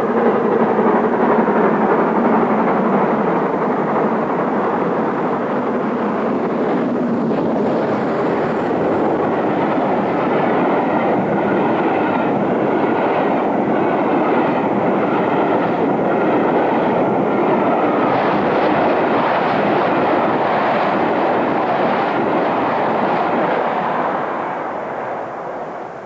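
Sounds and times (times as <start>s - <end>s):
steam train passing: 0.0s - 26.0s.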